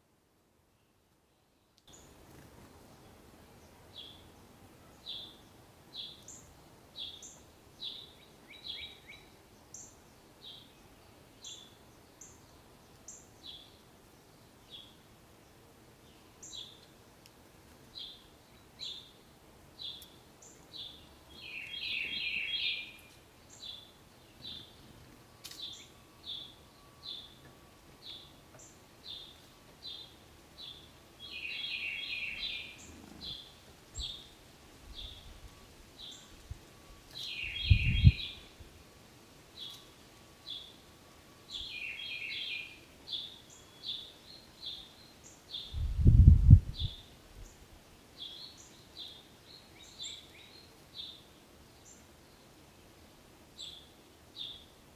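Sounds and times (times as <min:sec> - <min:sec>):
small birds chirping: 0:00.8 - 0:38.7, 0:39.5 - 0:54.8.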